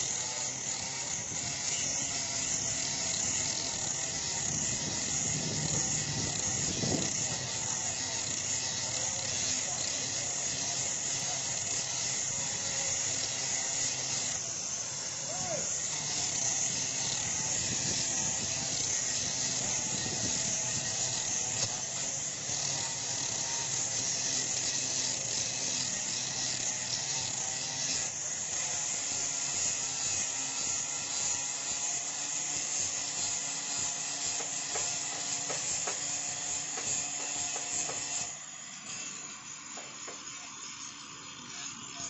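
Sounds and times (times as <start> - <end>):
angle grinder sanding wood: 0.0 - 42.0.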